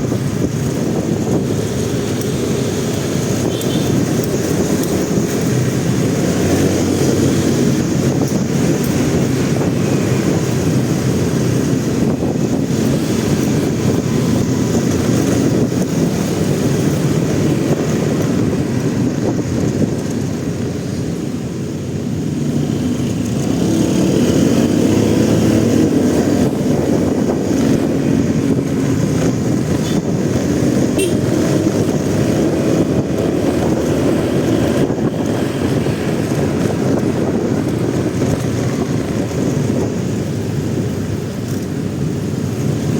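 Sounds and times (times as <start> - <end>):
motorcycle engine: 0.0 - 42.9.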